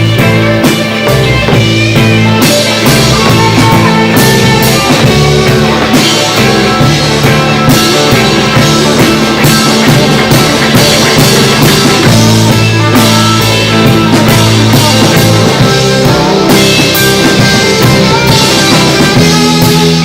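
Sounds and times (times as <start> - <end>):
live rock band playing: 0.0 - 20.0
steady drum beat: 0.0 - 20.0.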